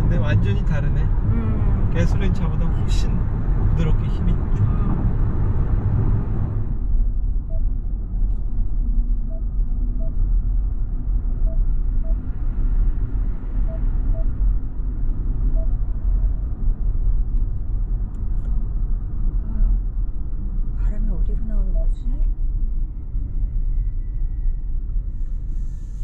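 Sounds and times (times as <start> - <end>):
road and tyre rumble: 0.0 - 26.0.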